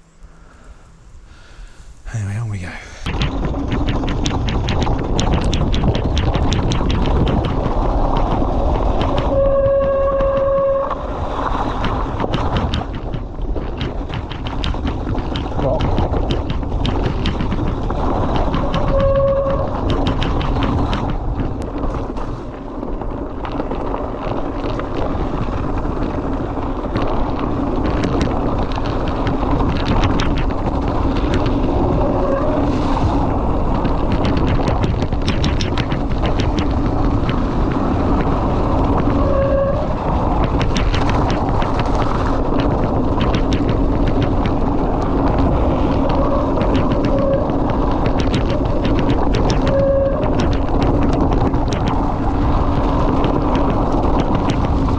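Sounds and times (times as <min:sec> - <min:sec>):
wind noise on microphone: 0:03.0 - 0:54.9
bike tyre roar: 0:03.1 - 0:54.9
bike rattling clicks: 0:03.2 - 0:09.4, 0:11.7 - 0:39.2, 0:40.0 - 0:54.9.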